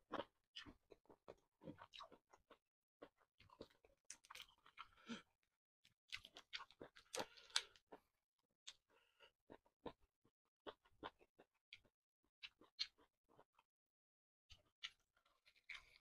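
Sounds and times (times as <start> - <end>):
person chewing with wet mouth sounds: 0.1 - 10.0, 10.6 - 13.6, 14.5 - 16.0.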